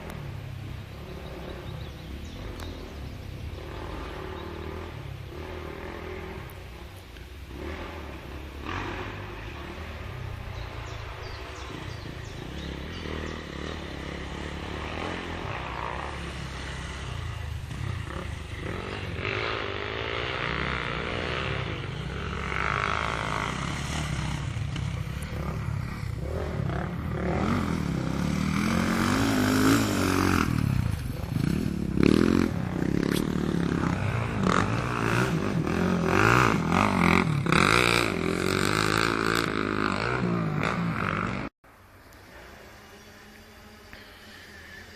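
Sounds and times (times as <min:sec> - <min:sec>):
motocross bike engines revving: 0:00.0 - 0:41.5.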